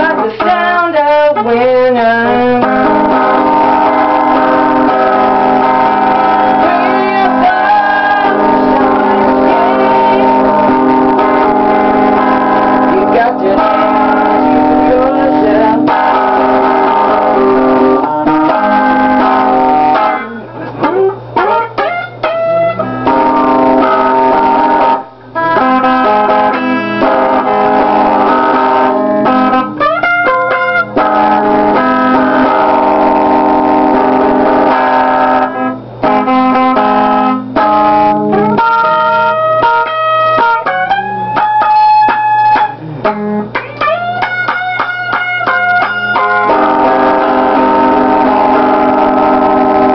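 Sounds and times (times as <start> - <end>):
instrumental music with sliding guitar: 0.0 - 49.9.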